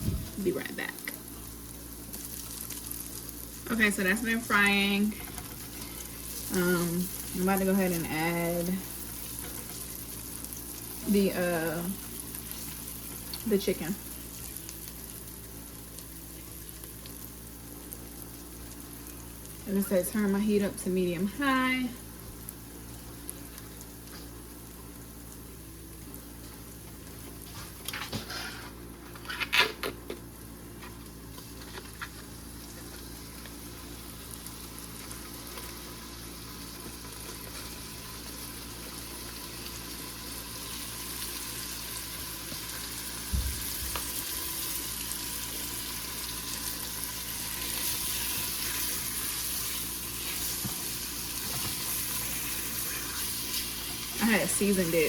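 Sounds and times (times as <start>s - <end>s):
chicken sizzling in oil: 0.4s - 27.5s, 30.2s - 55.0s.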